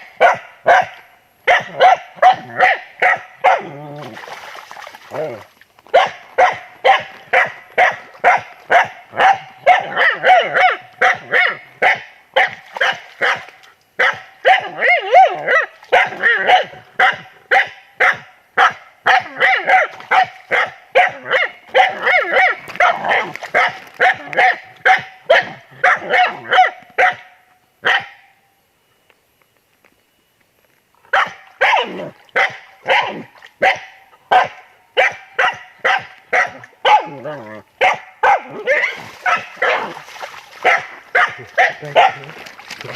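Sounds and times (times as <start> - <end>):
dog barking rapidly: 0.2 - 3.8, 5.9 - 28.2, 31.1 - 37.2, 37.8 - 40.0, 40.6 - 42.2.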